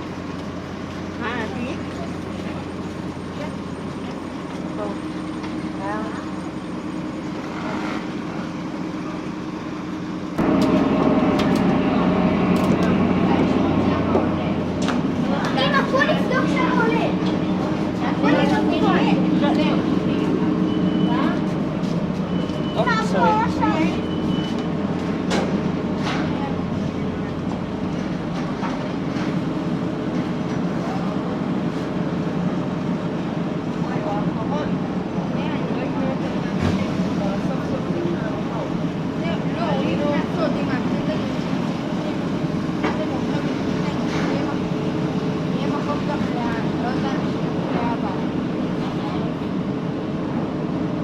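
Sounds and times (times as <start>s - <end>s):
large engine humming: 0.0s - 51.0s.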